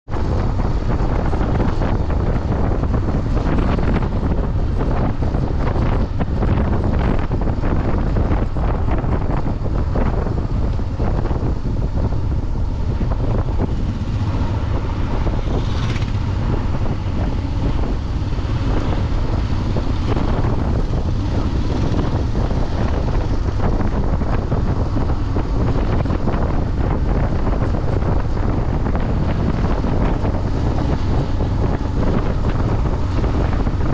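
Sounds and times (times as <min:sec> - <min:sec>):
wind buffeting microphone: 0:00.0 - 0:33.9
motorcycle engine: 0:00.1 - 0:33.9.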